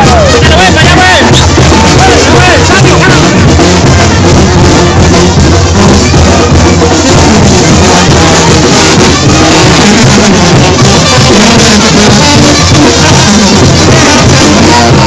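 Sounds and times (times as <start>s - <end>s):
brass band with drums: 0.0s - 15.0s.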